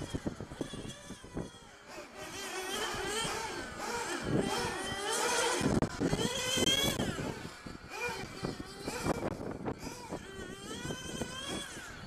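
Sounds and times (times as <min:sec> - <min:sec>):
high-pitched model car engines whining: 0:00.0 - 0:12.0.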